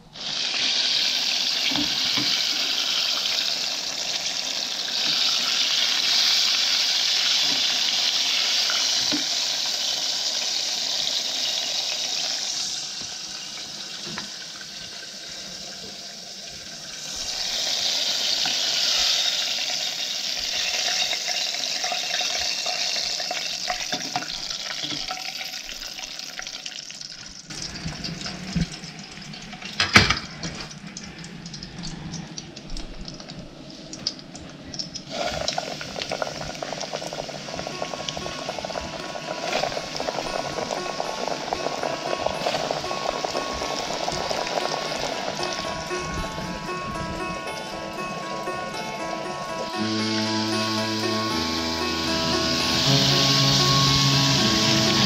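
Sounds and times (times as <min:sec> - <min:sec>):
fish deep-frying in oil: 0:00.0 - 0:55.0.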